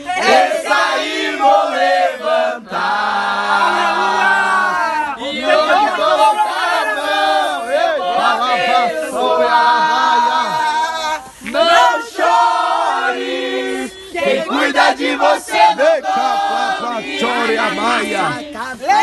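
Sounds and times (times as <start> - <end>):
people praying aloud: 0.0 - 19.0.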